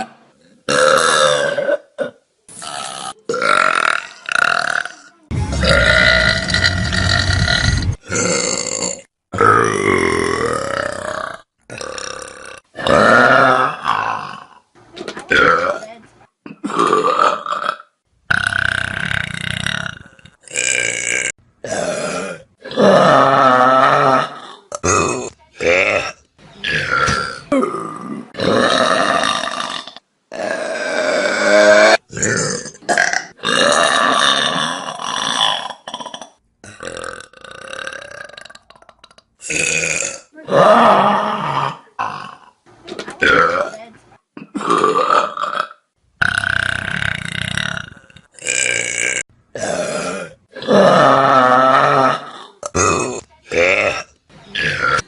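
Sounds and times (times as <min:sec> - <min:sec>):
people burping loudly: 0:00.0 - 0:43.8, 0:44.4 - 0:55.0.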